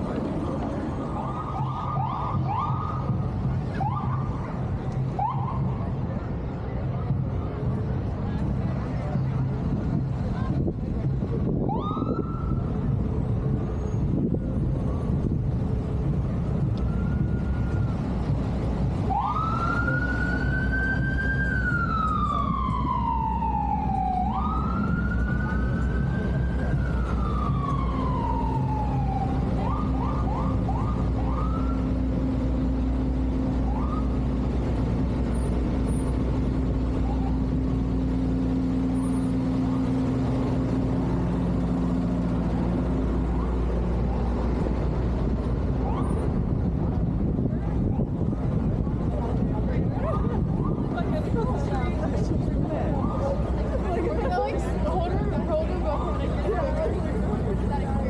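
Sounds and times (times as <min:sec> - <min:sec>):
emergency vehicle siren: 0:00.0 - 0:06.2, 0:11.4 - 0:51.4, 0:52.3 - 0:53.8, 0:55.6 - 0:57.7
traffic rumble: 0:00.0 - 0:58.0.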